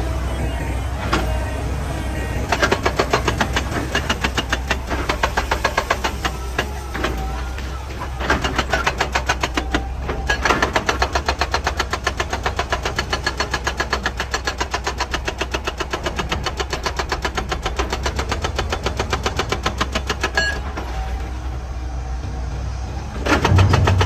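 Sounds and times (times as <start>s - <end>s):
diesel engine running: 0.0s - 24.0s
hydraulic breaker hammering rock: 0.0s - 24.0s.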